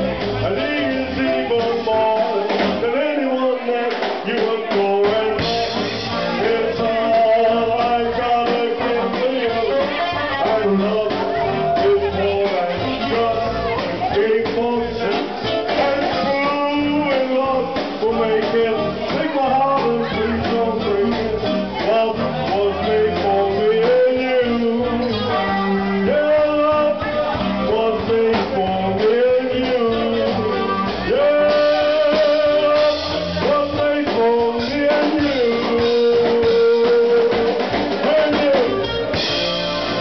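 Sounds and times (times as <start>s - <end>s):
band with drums: 0.0s - 40.0s
man singing: 0.0s - 40.0s.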